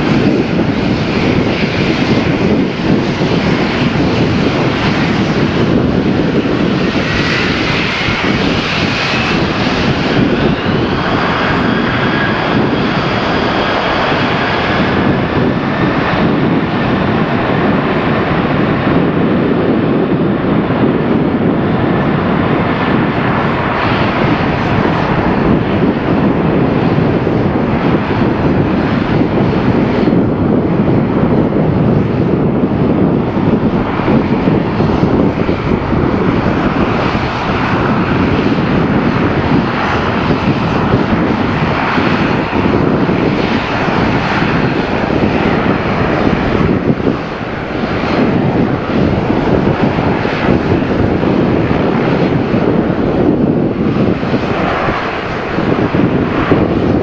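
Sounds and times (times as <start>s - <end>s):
jet taking off: 0.0s - 57.0s.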